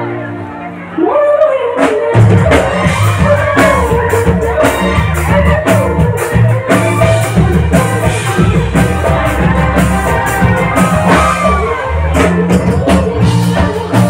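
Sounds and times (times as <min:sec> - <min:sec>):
live band over loudspeakers: 0:00.0 - 0:14.0
woman singing: 0:00.8 - 0:14.0.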